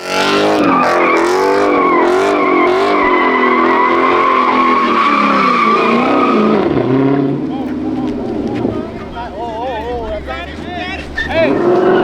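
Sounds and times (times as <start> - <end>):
car engine at high revs: 0.0 - 12.0
high tyre squeal: 0.0 - 12.0.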